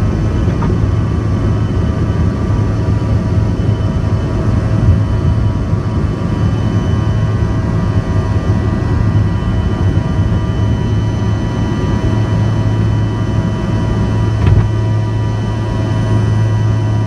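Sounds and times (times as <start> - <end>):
high engine whine: 0.0 - 17.0
jet engines droning in cabin: 0.0 - 17.0.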